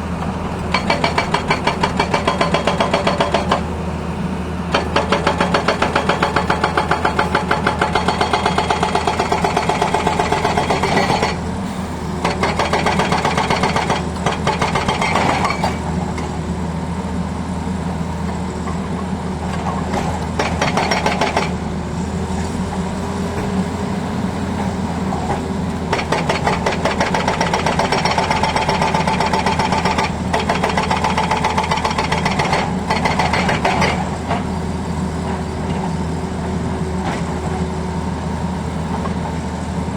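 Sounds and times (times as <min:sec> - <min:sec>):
hydraulic breaker hammering road: 0:00.0 - 0:16.8, 0:17.8 - 0:39.9
diesel engine running: 0:00.0 - 0:39.9.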